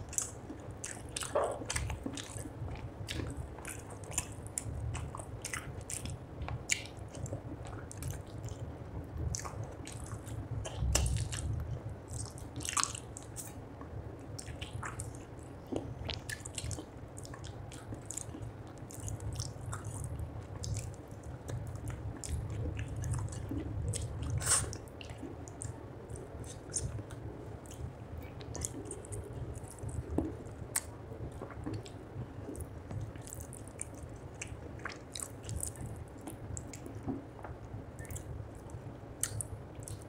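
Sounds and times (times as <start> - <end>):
wet chewing and mouth smacking: 0.0 - 8.6, 9.3 - 40.0.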